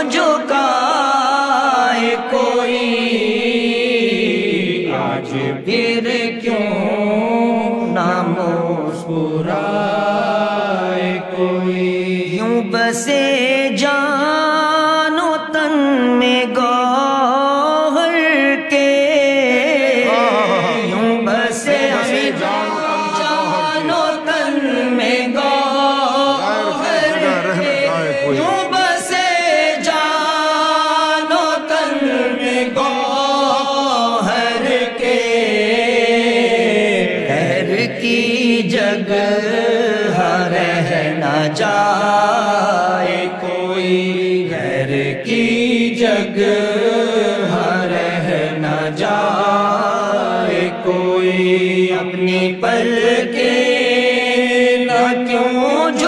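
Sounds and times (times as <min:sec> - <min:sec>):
man chanting: 0:00.0 - 0:56.0.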